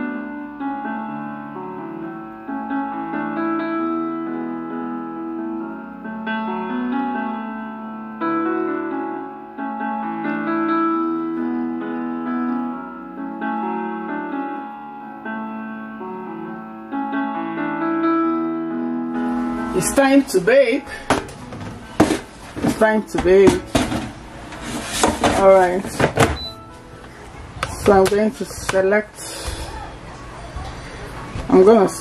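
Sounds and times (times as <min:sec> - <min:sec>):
slow piano music: 0:00.0 - 0:27.9.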